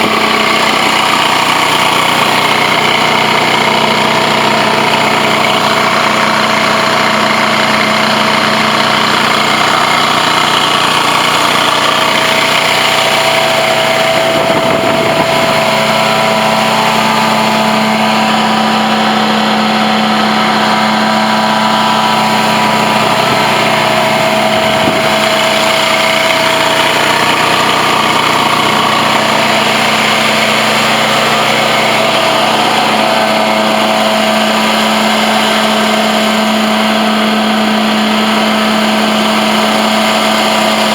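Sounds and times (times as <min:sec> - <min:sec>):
carpet extractor humming: 0:00.0 - 0:40.9.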